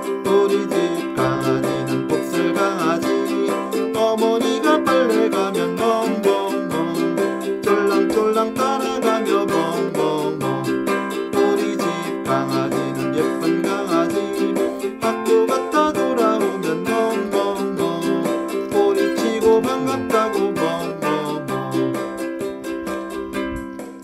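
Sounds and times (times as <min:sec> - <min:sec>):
ukulele strumming a melody: 0:00.0 - 0:24.0.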